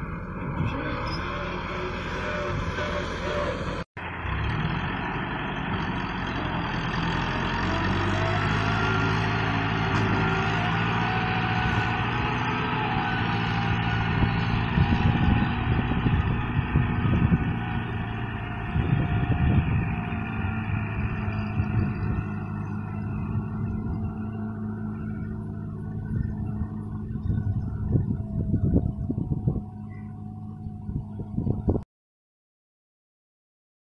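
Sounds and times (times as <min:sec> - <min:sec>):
tractor diesel engine running: 0:00.0 - 0:31.8.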